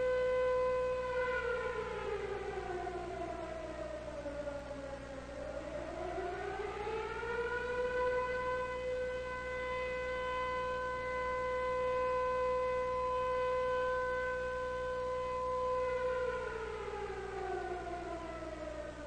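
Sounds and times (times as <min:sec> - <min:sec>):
warning siren sliding in pitch: 0:00.0 - 0:19.0.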